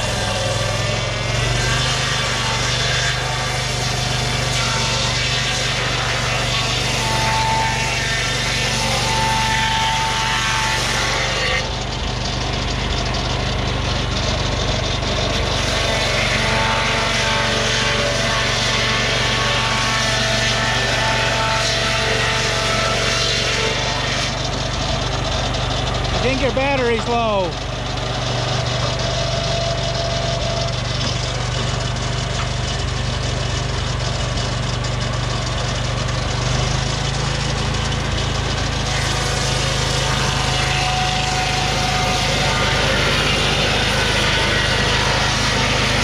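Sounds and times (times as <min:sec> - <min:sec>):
circular saw blade cutting log: 0:00.0 - 0:46.0
sawmill engine drone: 0:00.0 - 0:46.0.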